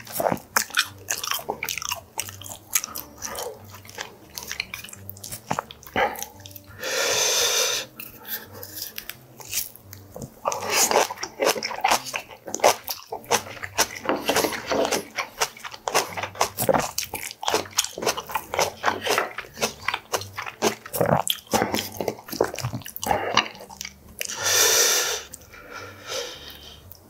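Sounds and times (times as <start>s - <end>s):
crunchy bites and wet chewing: 0.0s - 6.8s, 7.8s - 24.6s.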